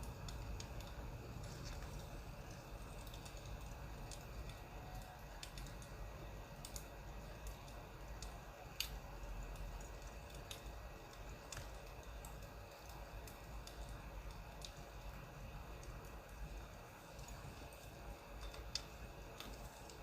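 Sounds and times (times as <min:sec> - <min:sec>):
faint low fire rumble: 0:00.0 - 0:20.0
wood fire popping: 0:00.0 - 0:20.0.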